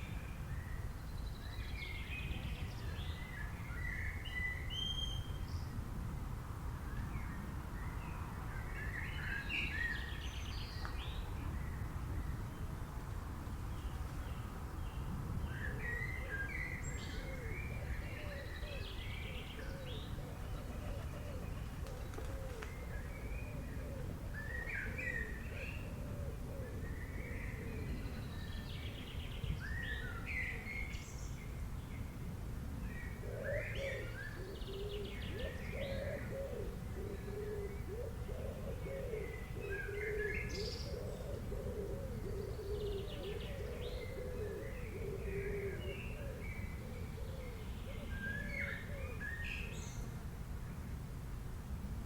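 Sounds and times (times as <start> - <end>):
low background noise: 0.0 - 52.0.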